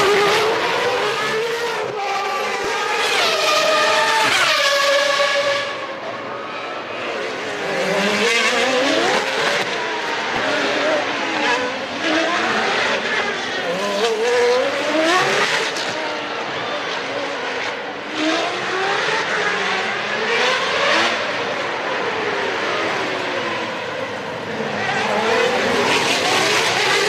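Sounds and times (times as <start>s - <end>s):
racing car engines at high revs: 0.0s - 27.0s.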